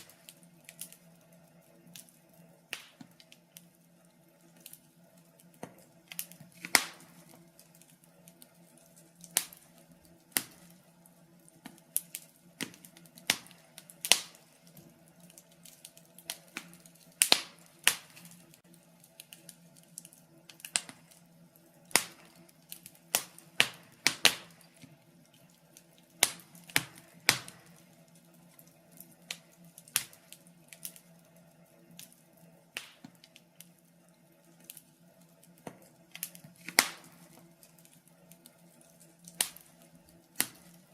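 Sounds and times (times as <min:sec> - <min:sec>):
burning logs crackling: 0:00.0 - 0:40.9.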